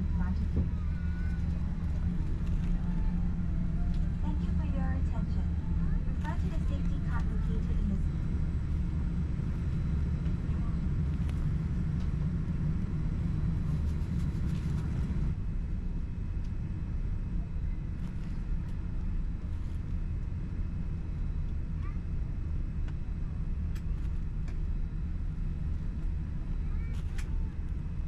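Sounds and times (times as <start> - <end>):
jet engine rumble in cabin: 0.0 - 28.0.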